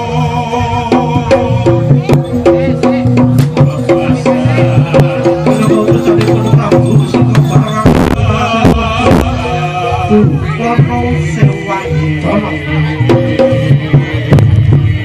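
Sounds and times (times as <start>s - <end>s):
metallic gamelan melody: 0.0s - 14.8s
hand drum beats: 0.6s - 15.0s.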